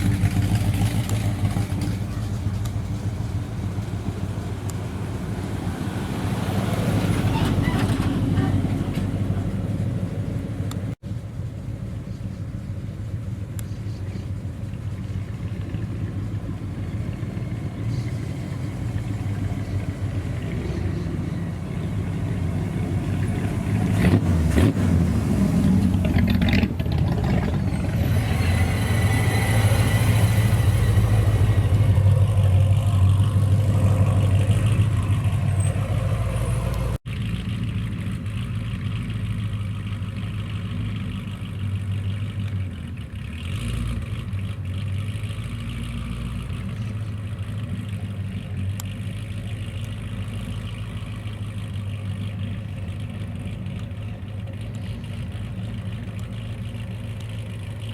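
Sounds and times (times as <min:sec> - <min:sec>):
car engine low rumble: 0:00.0 - 0:57.9.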